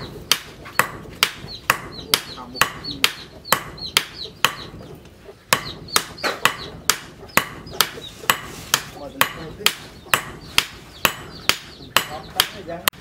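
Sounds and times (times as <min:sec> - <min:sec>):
hammers striking steel on anvil: 0:00.0 - 0:04.8, 0:05.5 - 0:13.0.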